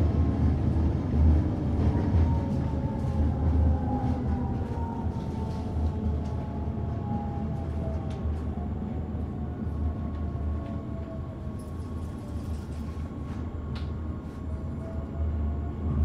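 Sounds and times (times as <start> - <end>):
railcar low rumble: 0.0 - 16.0.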